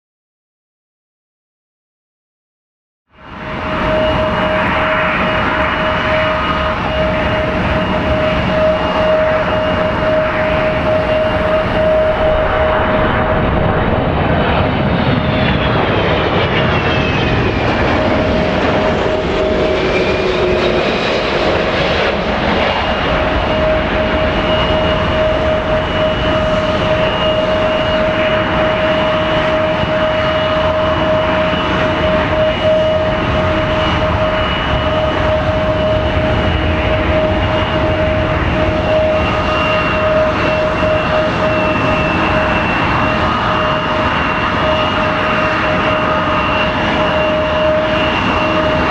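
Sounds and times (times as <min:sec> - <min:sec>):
jet engines whining and roaring: 0:03.1 - 0:48.9.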